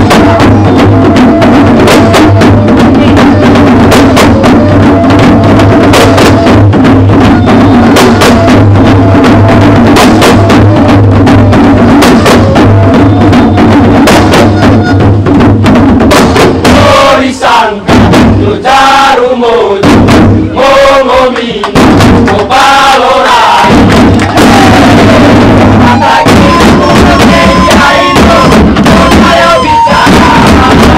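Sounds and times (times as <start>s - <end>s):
group voices chanting: 0.0s - 15.0s, 16.2s - 30.9s
wooden hand drums playing: 0.0s - 19.2s, 19.8s - 30.9s.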